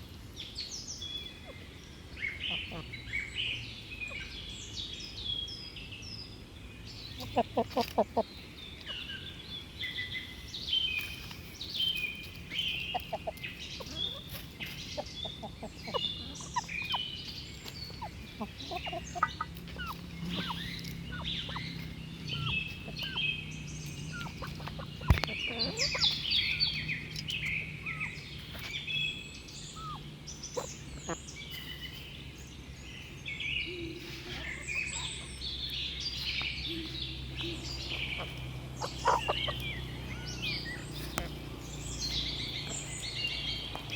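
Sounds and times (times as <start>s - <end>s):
chickens calling: 0.0s - 43.9s
small birds chirping: 0.0s - 43.9s.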